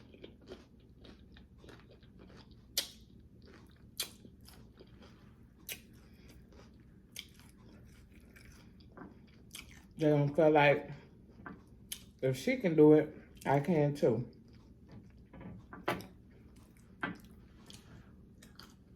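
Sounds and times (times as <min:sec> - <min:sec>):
crackly chewing: 0:00.0 - 0:10.0, 0:10.9 - 0:12.2, 0:14.2 - 0:18.9.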